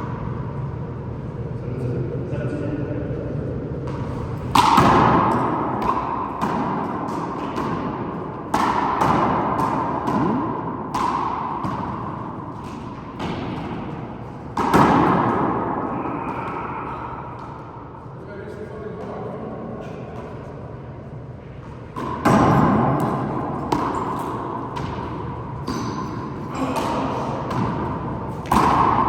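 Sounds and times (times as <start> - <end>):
handball hitting court walls: 3.8 - 18.1, 18.9 - 20.8, 21.4 - 29.0.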